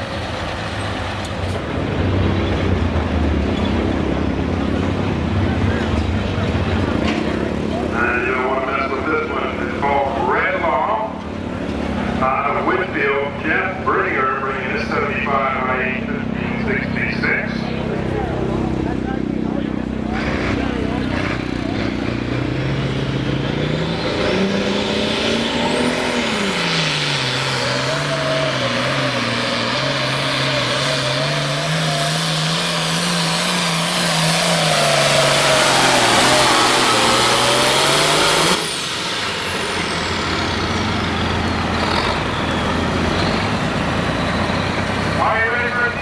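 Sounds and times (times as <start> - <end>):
diesel tractor engine at full throttle: 0.0 - 46.0
high turbo whine: 0.0 - 46.0.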